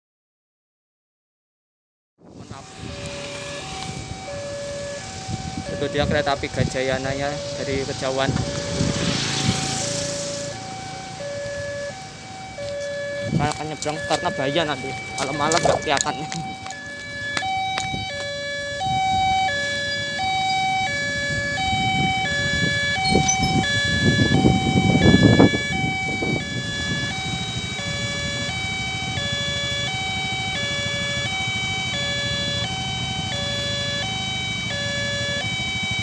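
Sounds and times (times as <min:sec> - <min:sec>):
vehicle rumble: 0:02.2 - 0:36.0
level crossing warning bell: 0:02.7 - 0:36.0.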